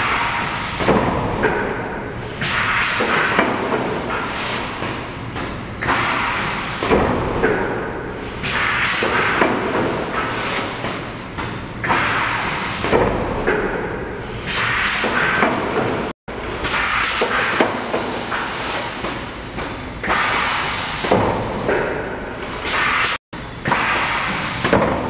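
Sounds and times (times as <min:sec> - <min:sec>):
pneumatic press clanking: 0:00.8 - 0:25.0.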